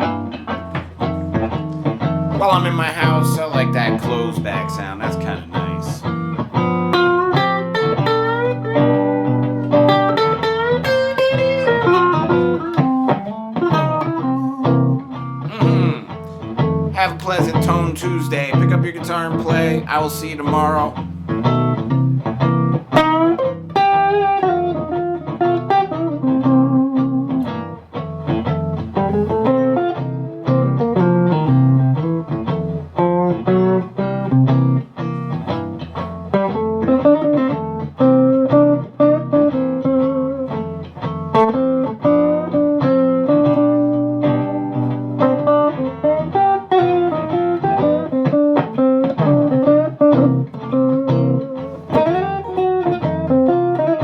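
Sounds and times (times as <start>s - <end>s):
electric guitar melody: 0.0s - 54.0s.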